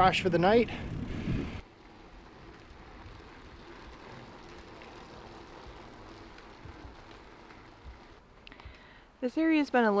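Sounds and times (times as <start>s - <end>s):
low road rumble: 0.0s - 10.0s.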